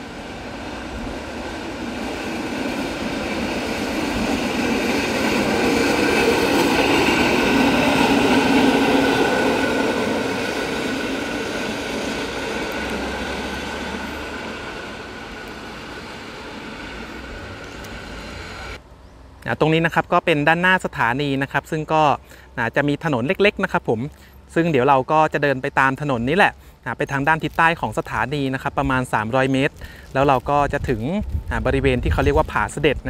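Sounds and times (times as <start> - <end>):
rail inspection car passing: 0.0 - 33.0.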